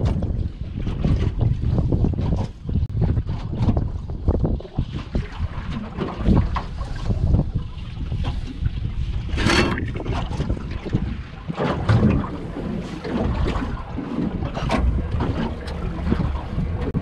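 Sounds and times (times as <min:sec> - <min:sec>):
waves slapping a boat hull: 0:00.0 - 0:17.0
wind buffeting microphone: 0:00.0 - 0:17.0.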